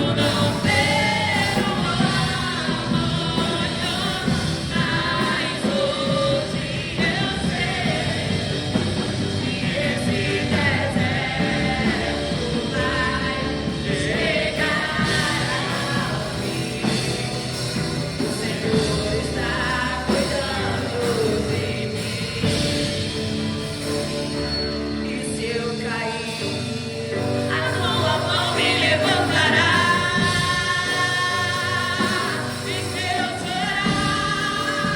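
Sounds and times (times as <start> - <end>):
band accompaniment: 0.0 - 34.9
voices singing worship song: 0.0 - 34.9.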